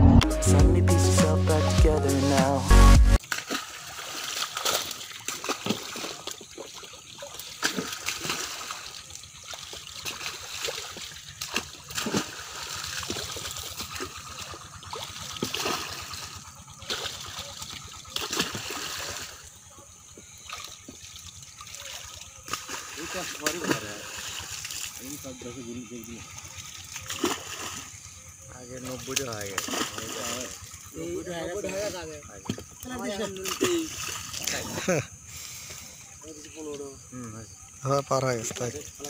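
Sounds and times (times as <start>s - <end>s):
fish splashing in shallow water: 3.2s - 39.0s.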